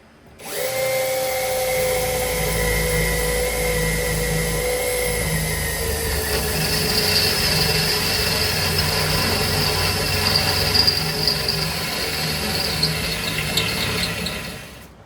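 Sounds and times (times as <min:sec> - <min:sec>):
electric drill boring sheet metal: 0:00.4 - 0:15.0.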